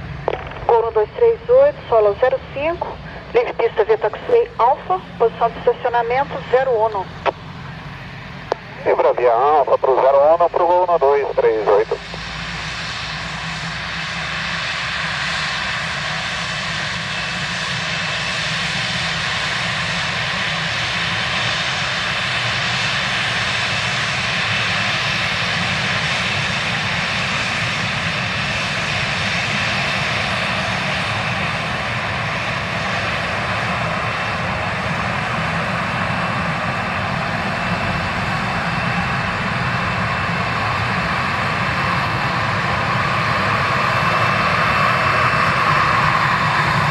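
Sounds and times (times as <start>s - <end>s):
jet engines whining at taxi power: 0.0s - 46.9s.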